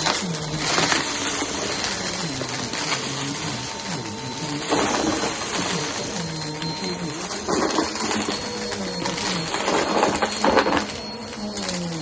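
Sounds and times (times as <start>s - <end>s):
cereal crackling in vacuum: 0.0s - 12.0s
vacuum cleaner running: 0.0s - 12.0s.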